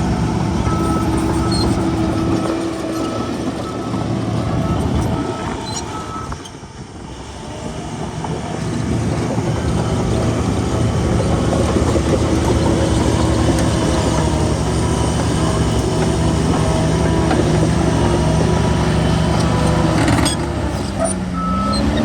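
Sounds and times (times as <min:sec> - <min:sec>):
bulldozer diesel engine: 0:00.0 - 0:22.0.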